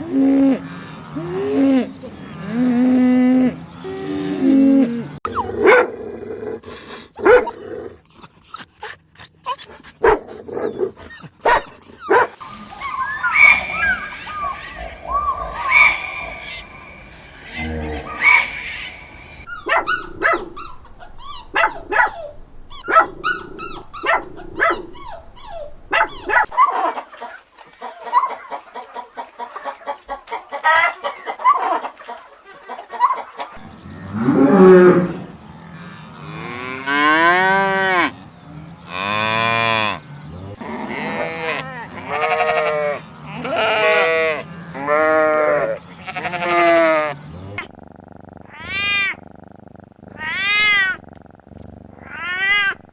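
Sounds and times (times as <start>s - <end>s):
farm animal calls: 0.0s - 52.9s.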